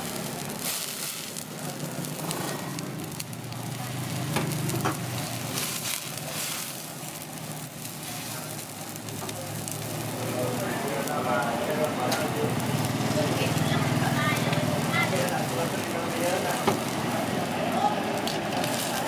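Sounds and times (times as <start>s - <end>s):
water boiling in a wok: 0.0s - 19.0s.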